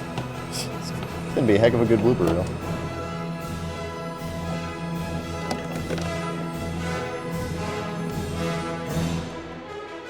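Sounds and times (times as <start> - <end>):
orchestral music: 0.0 - 10.0.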